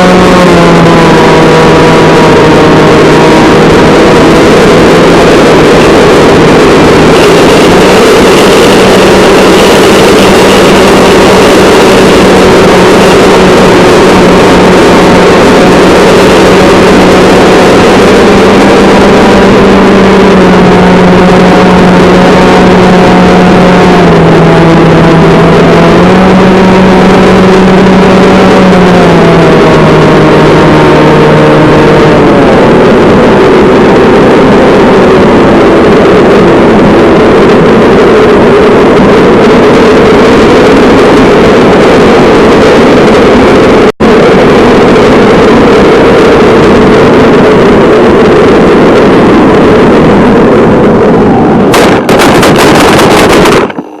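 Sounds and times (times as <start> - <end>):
electric motor buzzing whine: 0.0 - 43.2
rushing air noise: 0.0 - 54.0.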